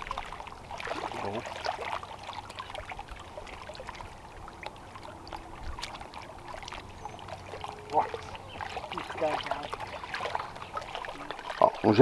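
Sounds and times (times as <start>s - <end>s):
water lapping at shore: 0.0s - 12.0s.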